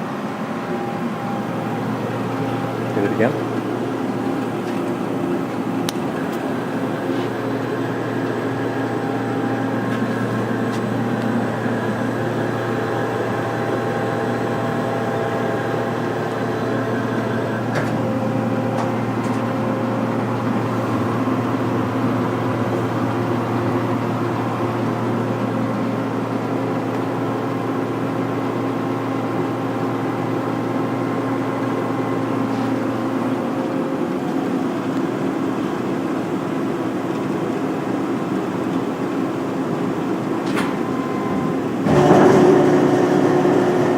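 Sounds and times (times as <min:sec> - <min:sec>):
lathe machine humming: 0:00.0 - 0:43.9.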